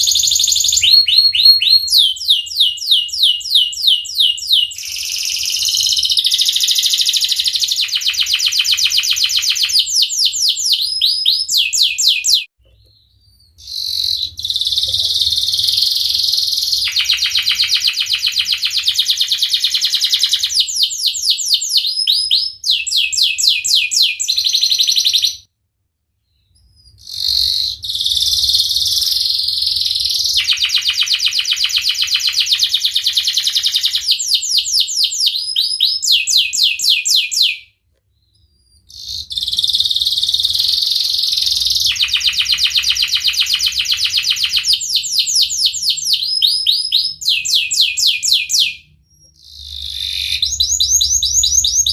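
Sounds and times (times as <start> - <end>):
canary singing trills and chirps: 0.0 - 25.5, 26.2 - 51.9.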